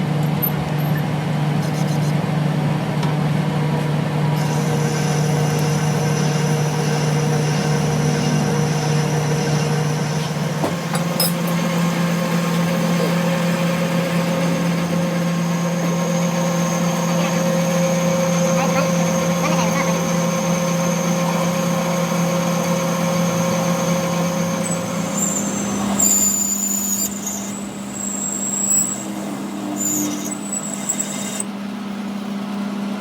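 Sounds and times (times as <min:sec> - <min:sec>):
machine humming: 0:04.2 - 0:32.0.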